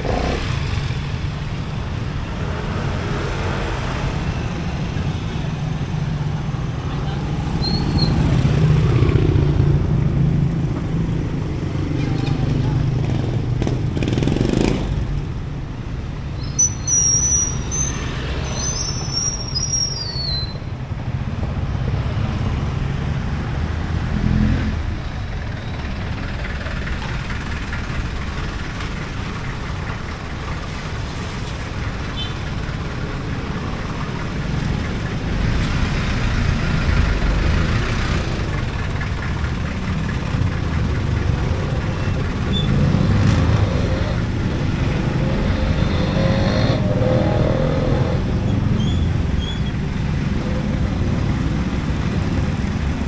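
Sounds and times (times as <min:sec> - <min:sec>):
vehicle engines rumbling: 0:00.0 - 0:53.0.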